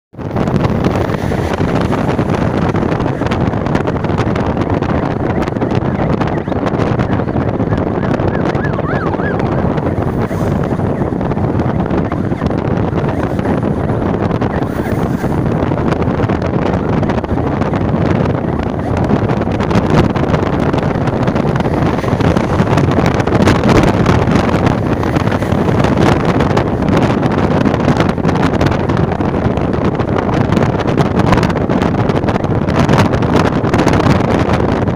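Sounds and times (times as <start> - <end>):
road and engine noise: 0.1 - 34.9
wind buffeting microphone: 0.1 - 34.9.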